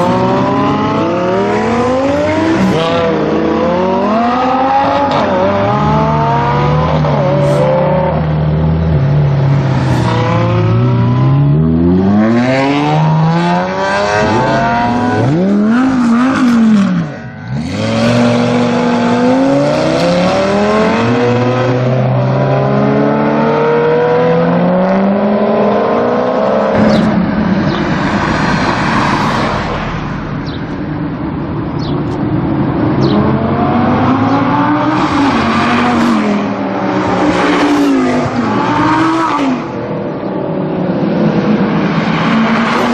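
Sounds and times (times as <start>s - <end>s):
supercar engines revving: 0.0s - 42.9s.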